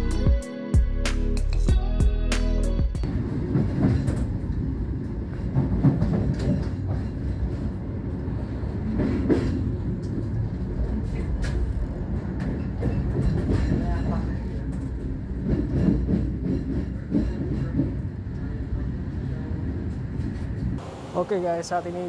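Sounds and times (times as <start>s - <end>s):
train rumbling on rails: 3.0s - 22.0s.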